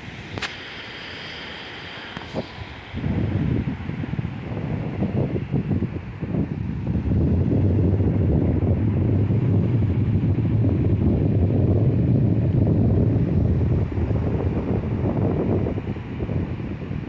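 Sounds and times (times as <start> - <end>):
sea surf: 0.0 - 17.0
wind buffeting microphone: 0.0 - 17.0.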